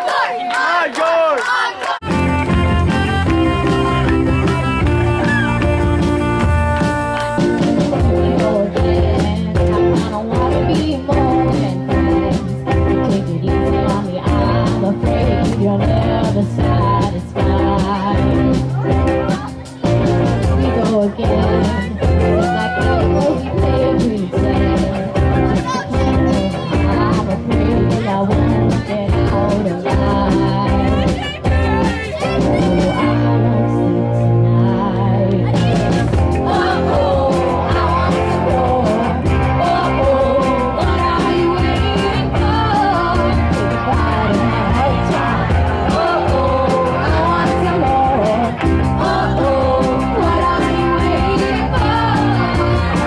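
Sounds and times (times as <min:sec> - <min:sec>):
drums: 0:01.9 - 0:53.0
bass guitar: 0:02.0 - 0:53.0
electric guitar: 0:02.0 - 0:53.0
person singing: 0:02.0 - 0:53.0.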